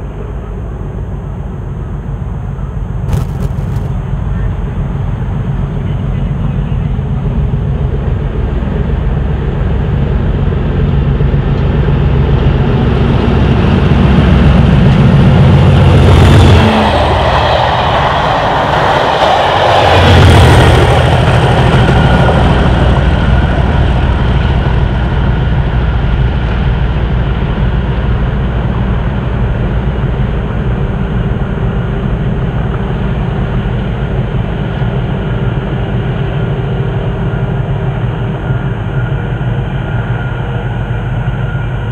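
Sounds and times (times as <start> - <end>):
diesel locomotive engine passing: 0.0 - 41.9
train wheels rumbling: 0.0 - 41.9.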